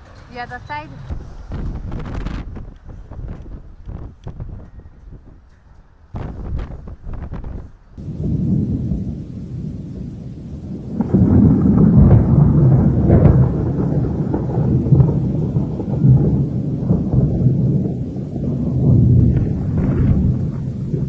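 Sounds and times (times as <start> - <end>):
wind gusts buffeting microphone: 0.0 - 21.0.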